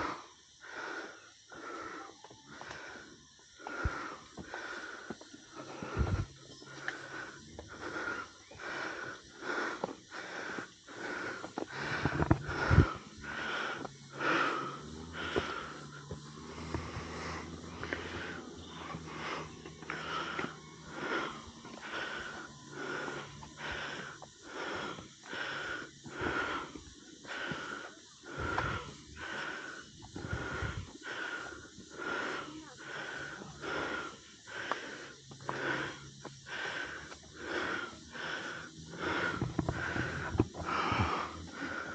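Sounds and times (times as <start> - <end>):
person panting hard: 0.0 - 41.9.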